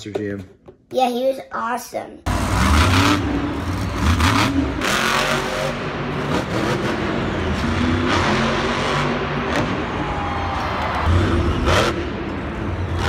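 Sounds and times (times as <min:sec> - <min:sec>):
monster truck engine revving: 0:02.3 - 0:13.0.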